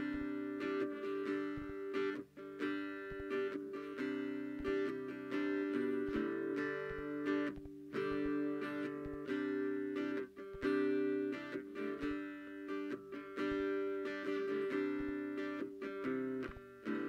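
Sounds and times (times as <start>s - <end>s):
guitar playing plucked notes: 0.0s - 17.0s.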